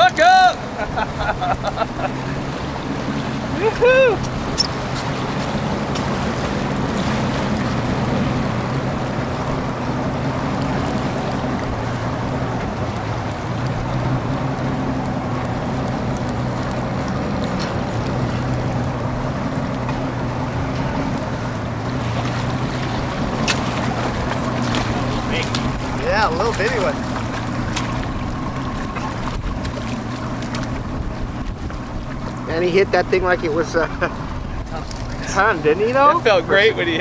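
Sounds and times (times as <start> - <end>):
outboard motor running: 0.0 - 37.0
water washing past hull: 0.0 - 37.0.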